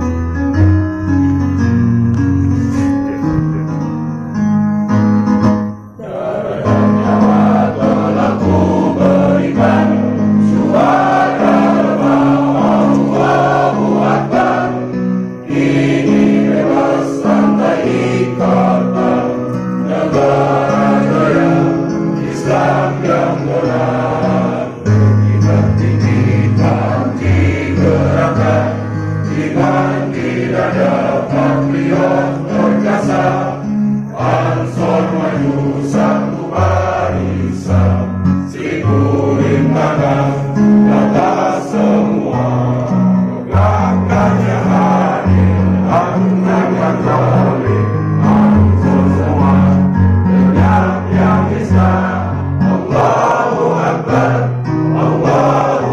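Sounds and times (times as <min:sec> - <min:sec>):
choir singing: 0:06.0 - 0:55.9.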